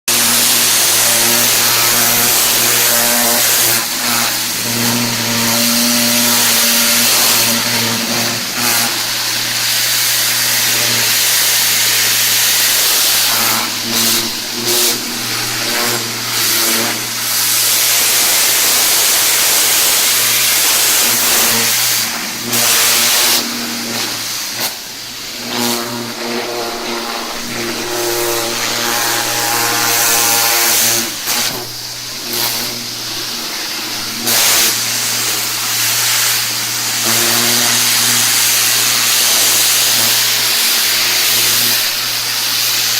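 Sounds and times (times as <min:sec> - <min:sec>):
pressure washer engine running: 0:00.0 - 0:42.9
water jet hissing: 0:00.1 - 0:42.9.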